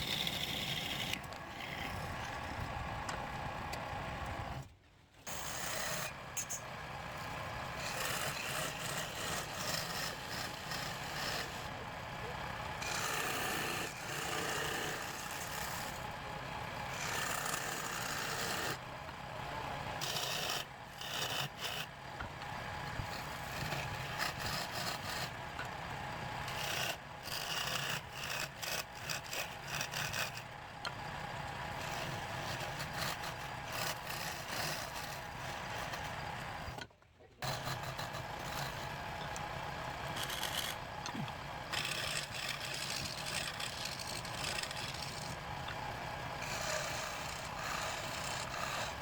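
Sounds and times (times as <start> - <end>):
wood lathe running: 0.0 - 2.5, 5.3 - 36.8, 37.4 - 49.0
turning tool scraping wood: 0.0 - 2.6, 5.3 - 11.7, 12.8 - 16.1, 17.0 - 18.8, 19.9 - 21.9, 22.9 - 25.4, 26.4 - 31.0, 31.7 - 36.8, 37.4 - 49.0.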